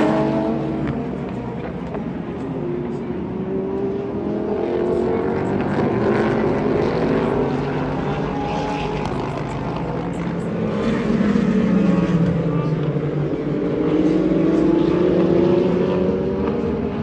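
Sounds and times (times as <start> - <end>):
race car engines running: 0.0 - 17.0.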